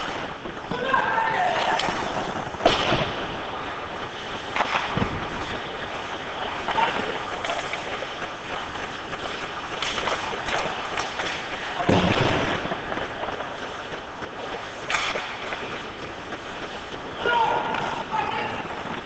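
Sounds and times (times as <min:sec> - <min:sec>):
hockey sticks and puck clacking: 0:00.0 - 0:19.0
indoor rink hall noise: 0:00.0 - 0:19.0
skates on ice: 0:00.0 - 0:19.0.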